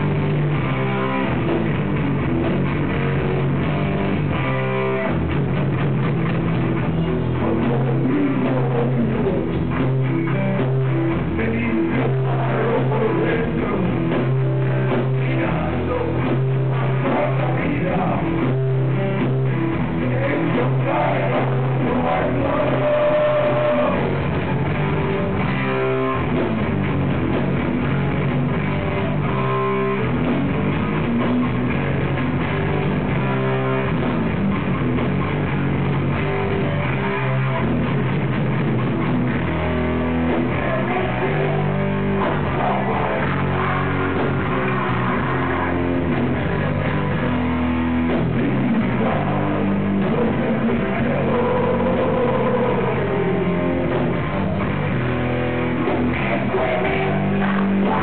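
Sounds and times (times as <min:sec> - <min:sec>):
bass guitar: 0:00.0 - 0:58.0
drum kit: 0:00.0 - 0:58.0
electric guitar: 0:00.0 - 0:58.0.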